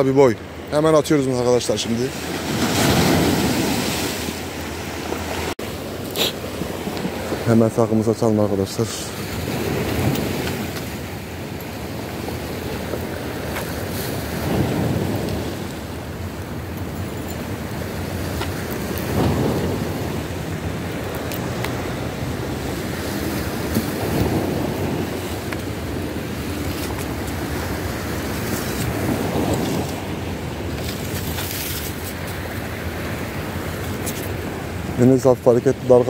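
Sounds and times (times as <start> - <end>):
sea waves washing onto shore: 0.0 - 36.0.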